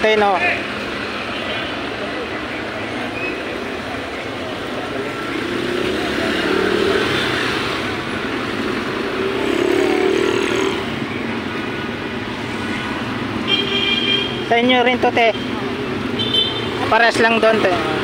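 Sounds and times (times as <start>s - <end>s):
passing vehicle engines: 0.0s - 18.0s
road noise hum: 0.0s - 18.0s.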